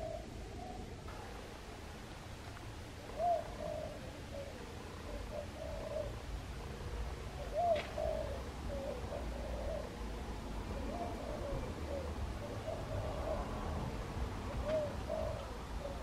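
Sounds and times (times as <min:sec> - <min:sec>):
dove cooing: 0:00.0 - 0:01.4, 0:03.0 - 0:16.0.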